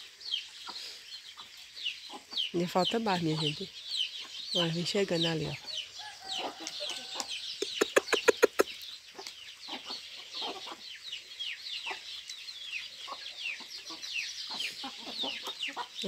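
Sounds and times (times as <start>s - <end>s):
chicks peeping: 0.0s - 16.0s
hen clucking: 0.6s - 16.0s.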